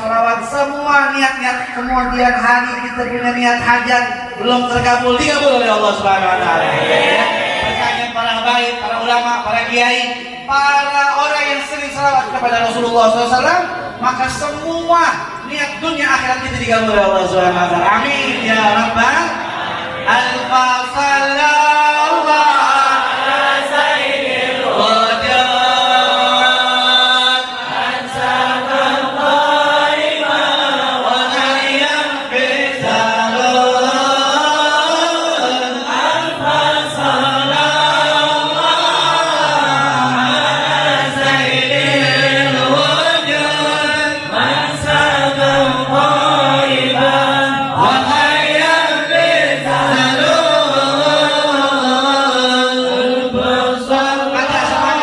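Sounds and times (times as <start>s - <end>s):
congregation chanting: 0.0s - 55.0s.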